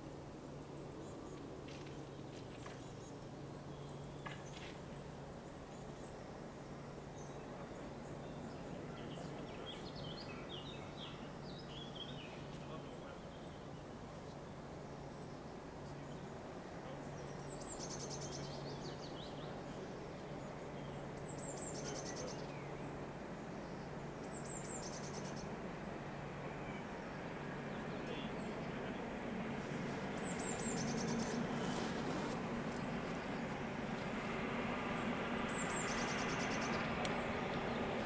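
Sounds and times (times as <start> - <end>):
steady low hum: 0.0 - 38.0
songbird singing: 0.5 - 38.0.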